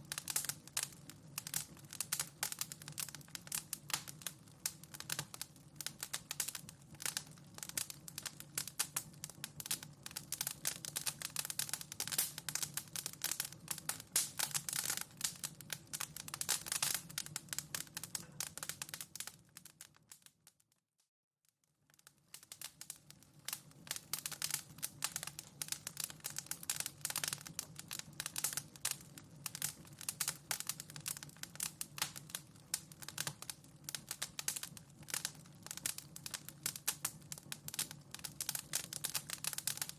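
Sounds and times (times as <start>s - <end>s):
fire crackling and popping: 0.0s - 20.8s, 21.7s - 39.9s.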